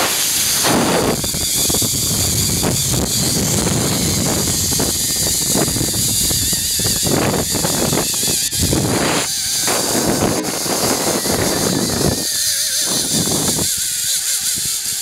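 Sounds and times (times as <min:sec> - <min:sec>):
wind on microphone: 0:00.0 - 0:15.0
zipline trolley whirring on cable: 0:00.0 - 0:15.0.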